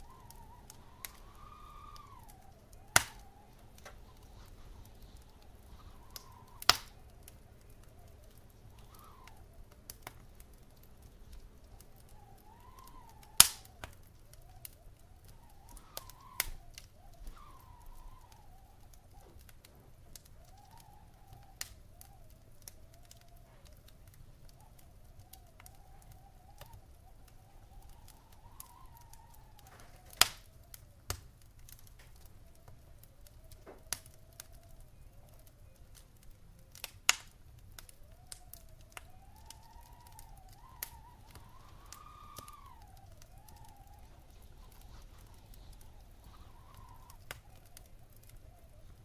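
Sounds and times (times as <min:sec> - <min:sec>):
faint wavering whistle: 0:00.0 - 0:09.8, 0:11.0 - 0:19.5, 0:20.2 - 0:30.9, 0:37.8 - 0:49.0
low fire rumble: 0:00.0 - 0:49.0
wood fire crackling and popping: 0:00.0 - 0:49.0.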